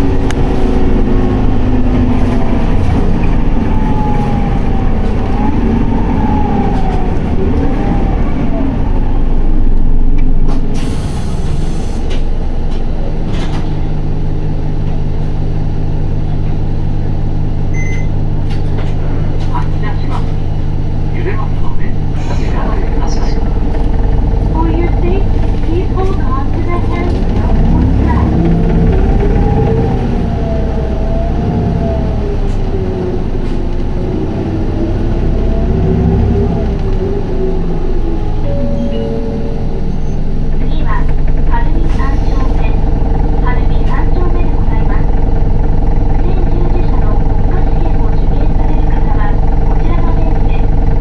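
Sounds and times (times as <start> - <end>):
bus diesel engine droning: 0.0 - 51.0.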